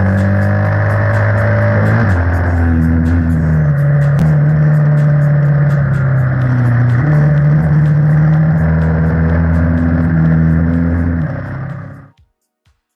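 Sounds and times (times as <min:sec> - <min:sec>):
motorcycle engine running: 0:00.0 - 0:12.1
background music with beat: 0:00.0 - 0:12.9.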